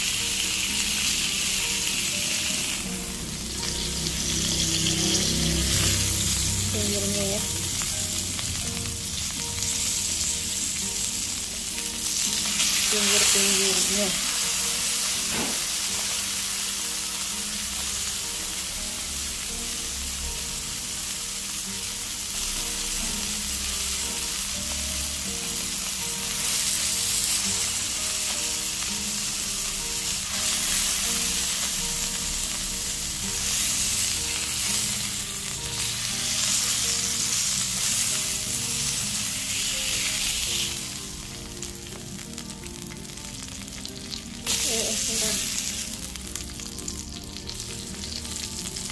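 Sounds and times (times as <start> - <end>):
quiet background music: 0.0 - 48.9
steak sizzling in a pan: 0.0 - 48.9.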